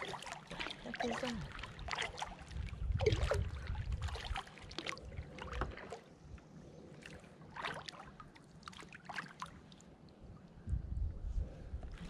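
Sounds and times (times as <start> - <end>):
paddle splashing in water: 0.0 - 9.8.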